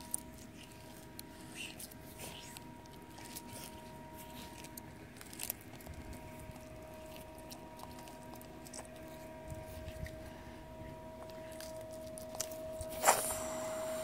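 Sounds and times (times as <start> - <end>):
tortoises crunching food: 0.0 - 14.0.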